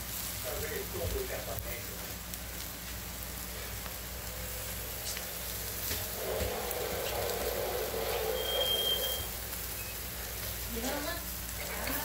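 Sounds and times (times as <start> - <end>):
meat sizzling on grill: 0.0 - 12.0.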